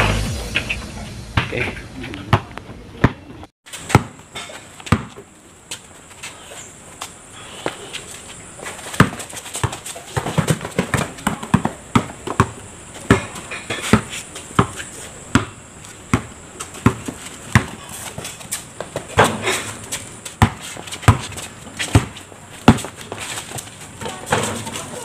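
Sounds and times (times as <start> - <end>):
basketball bouncing on concrete: 1.4 - 1.6, 2.3 - 5.8, 8.6 - 25.0.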